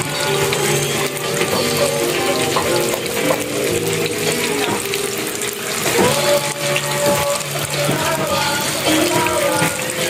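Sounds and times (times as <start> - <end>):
oil bubbling and sizzling: 0.0 - 10.0.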